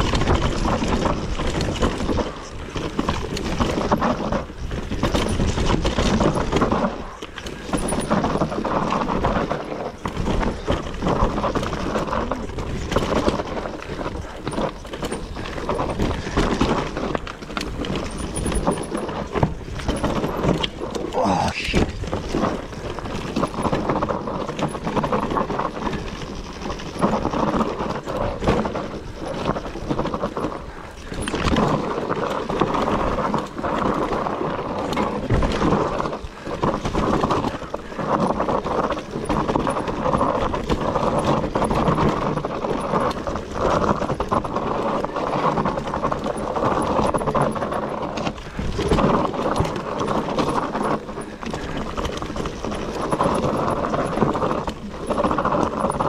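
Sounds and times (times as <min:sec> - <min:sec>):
bike knocking and rattling: 0:00.0 - 0:56.0
tyres rumbling over soil: 0:00.0 - 0:56.0.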